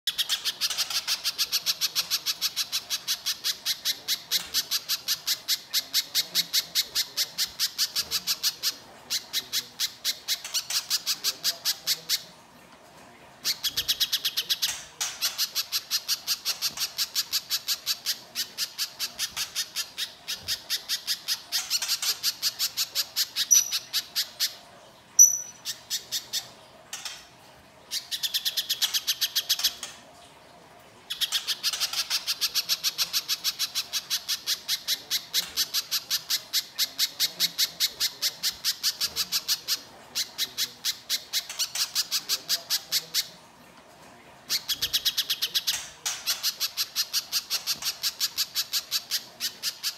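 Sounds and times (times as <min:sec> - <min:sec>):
bird harsh rapid chattering call: 0:00.1 - 0:12.3, 0:13.4 - 0:24.6, 0:25.2 - 0:27.3, 0:27.9 - 0:30.0, 0:31.1 - 0:43.3, 0:44.5 - 0:49.9.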